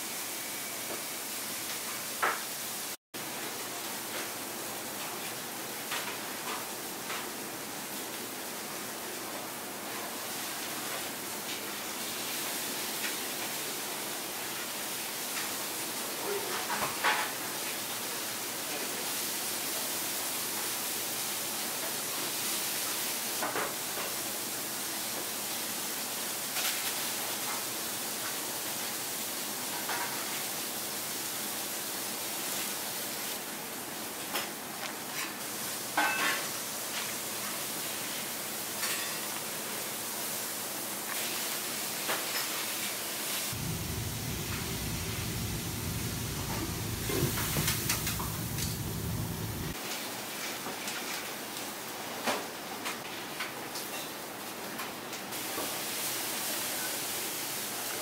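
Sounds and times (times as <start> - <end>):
kitchen background hiss: 0.0 - 58.0.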